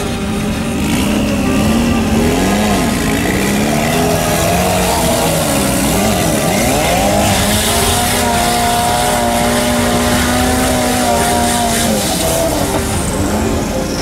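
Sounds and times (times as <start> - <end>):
engine revving hard: 0.0 - 14.0.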